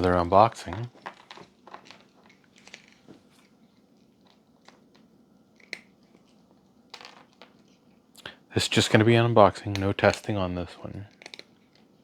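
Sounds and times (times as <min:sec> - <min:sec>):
pet crunching treats: 0:00.0 - 0:06.4, 0:08.7 - 0:12.0.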